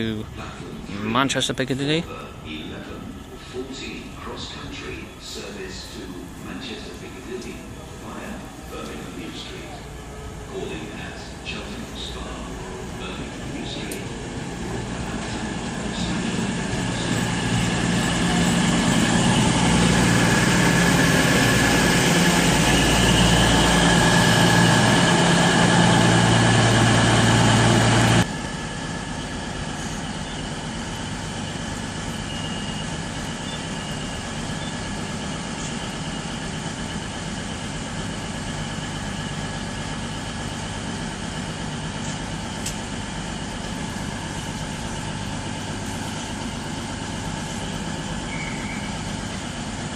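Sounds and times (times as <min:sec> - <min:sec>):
diesel train engines running: 0:00.0 - 0:49.9.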